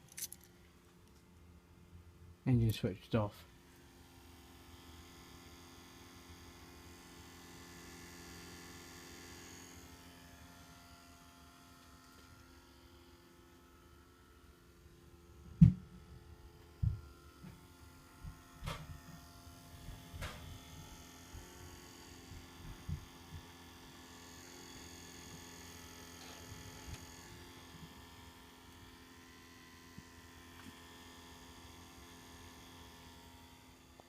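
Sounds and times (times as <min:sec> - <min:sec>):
faint electrical buzz: 0:00.0 - 0:34.0.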